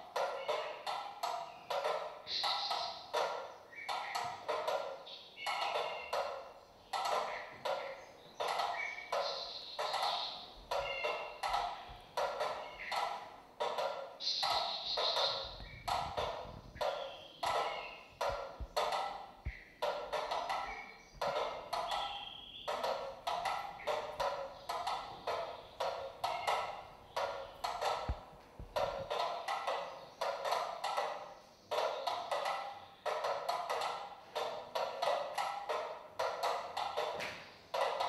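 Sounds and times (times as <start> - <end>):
metronomes ticking: 0.0 - 38.0.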